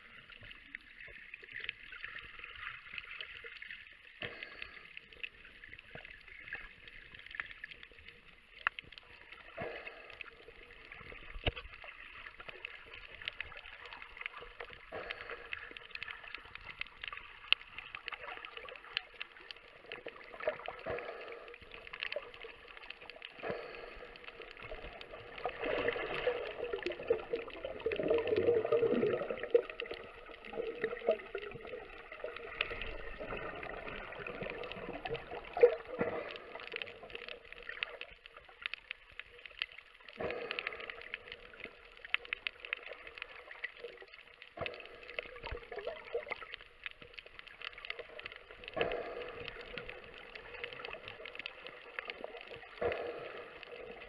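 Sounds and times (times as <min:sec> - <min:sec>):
bubbling gurgle: 0:00.0 - 0:54.0
sharp clicks and crackles: 0:00.0 - 0:54.0
muffled underwater noise: 0:04.1 - 0:54.0.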